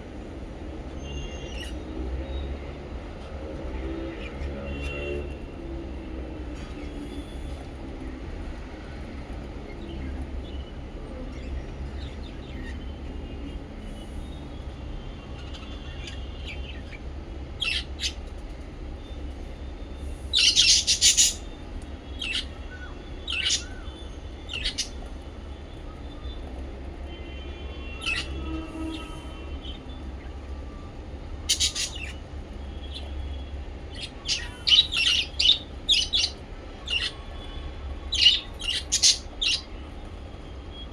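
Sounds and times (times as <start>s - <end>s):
birds twittering: 0.1s - 40.9s
birds chirping: 0.2s - 40.9s.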